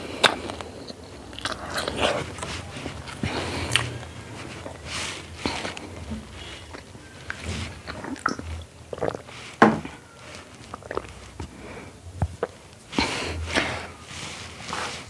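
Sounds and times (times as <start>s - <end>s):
chewing and wet mouth sounds: 0.0s - 15.0s.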